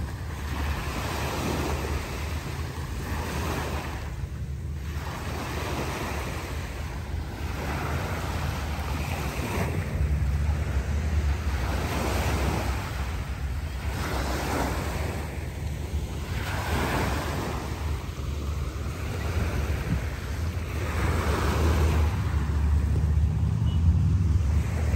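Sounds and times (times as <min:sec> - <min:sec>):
small waves breaking on sand: 0:00.0 - 0:24.9
wind buffeting microphone: 0:01.0 - 0:24.9.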